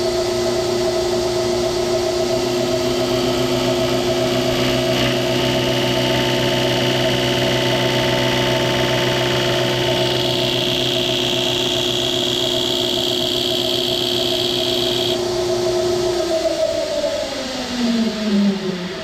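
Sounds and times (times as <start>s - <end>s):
machine tool humming with high whine: 0.0s - 16.9s.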